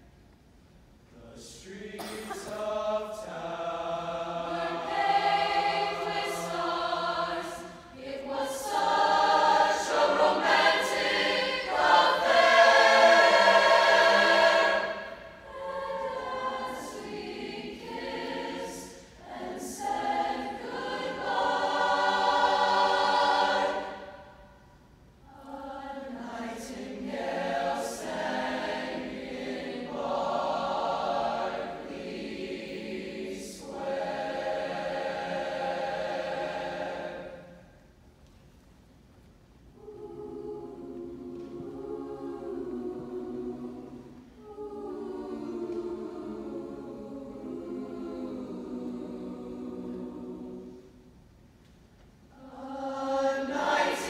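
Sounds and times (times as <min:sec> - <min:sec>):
choir singing: 0:01.2 - 0:24.6, 0:25.3 - 0:37.9, 0:39.8 - 0:51.2, 0:52.3 - 0:54.0.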